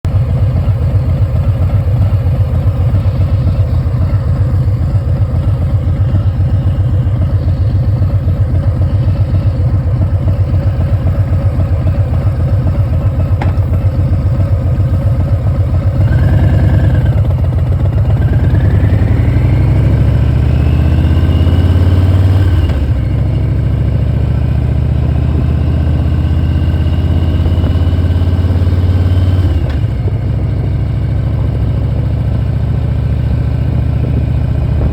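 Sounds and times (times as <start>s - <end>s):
motorcycle engine accelerating: 0.0s - 34.9s
high-pitched engine whine: 0.1s - 34.9s.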